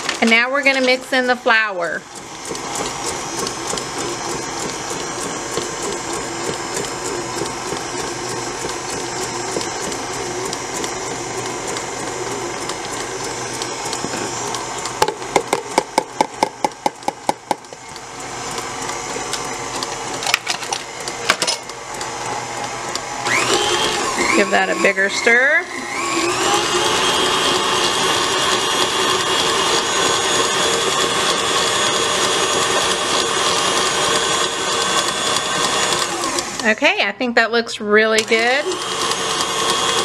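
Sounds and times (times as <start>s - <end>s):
stand mixer whisking batter: 0.0s - 37.1s, 37.9s - 40.0s.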